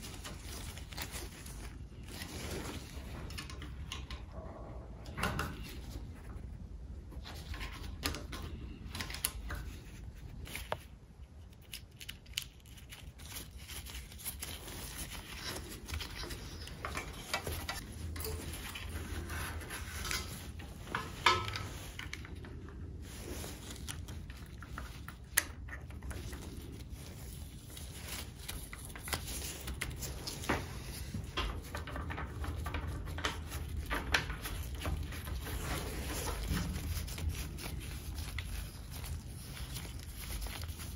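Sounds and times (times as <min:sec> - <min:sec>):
rubber gloves rustling: 0:00.0 - 0:04.5, 0:05.4 - 0:40.9.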